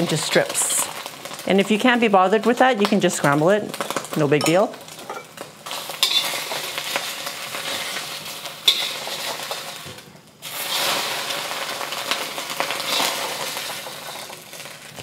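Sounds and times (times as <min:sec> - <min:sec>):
egg sizzling in hot oil: 0:00.0 - 0:15.0.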